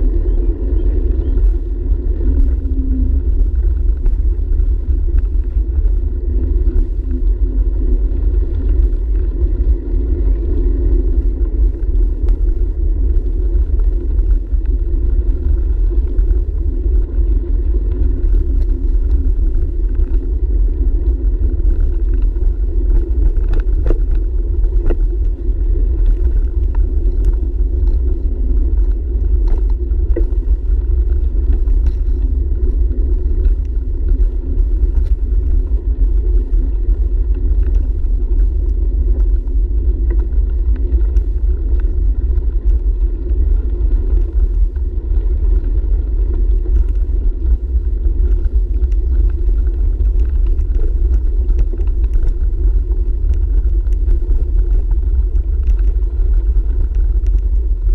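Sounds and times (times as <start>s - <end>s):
bicycle tyre and frame vibration: 0.0s - 57.9s
wind buffeting: 0.0s - 57.9s.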